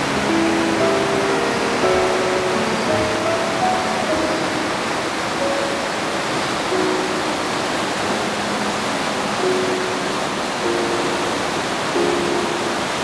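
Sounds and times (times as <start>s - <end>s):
river flowing: 0.0s - 13.0s
soft background music: 0.0s - 13.0s
waterfall rushing: 0.0s - 13.0s.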